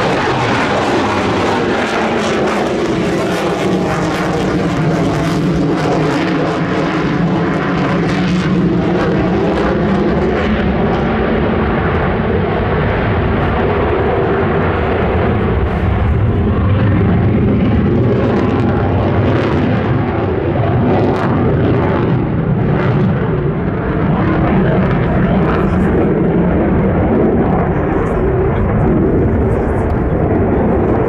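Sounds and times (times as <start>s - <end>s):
jet engine rumble and hiss: 0.0s - 31.0s.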